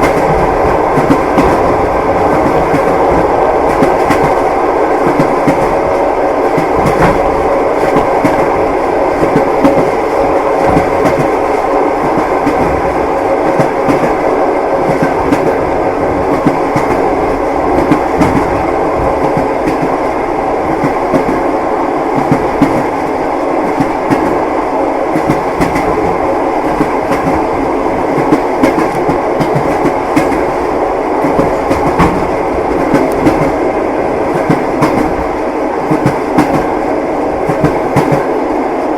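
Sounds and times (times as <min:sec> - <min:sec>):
train wheels knocking on rails: 0:00.0 - 0:21.4, 0:22.1 - 0:23.0, 0:23.6 - 0:24.4, 0:25.1 - 0:30.6, 0:31.2 - 0:33.7, 0:34.3 - 0:36.8, 0:37.4 - 0:38.3.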